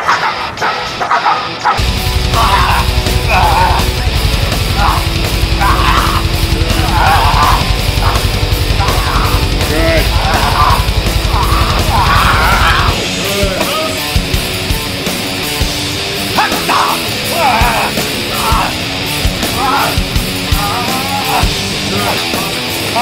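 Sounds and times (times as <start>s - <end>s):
loud heavy metal music: 0.0s - 23.0s
fast pounding drum beat: 1.8s - 23.0s.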